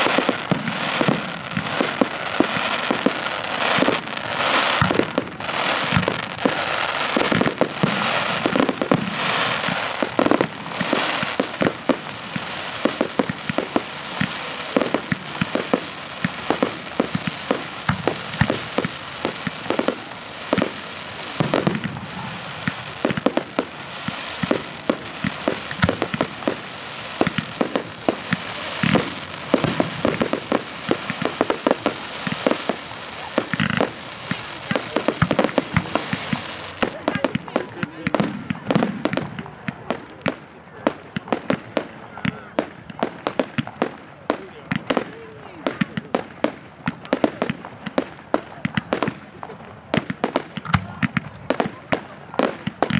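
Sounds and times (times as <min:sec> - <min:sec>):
crackling hiss: 0:00.0 - 0:52.9
fireworks bangs: 0:00.0 - 0:52.9.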